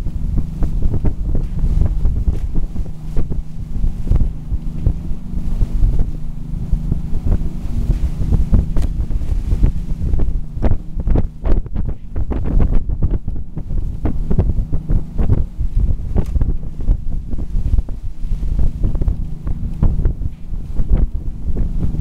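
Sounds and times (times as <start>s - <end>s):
boat engines running: 0.0s - 22.0s
wake water rushing: 0.0s - 22.0s
wind buffeting microphone: 0.0s - 22.0s.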